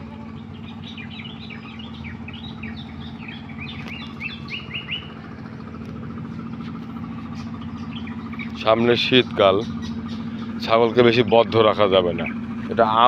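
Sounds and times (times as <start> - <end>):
songbirds chirping: 0.0 - 13.0
steady low hum: 0.0 - 13.0.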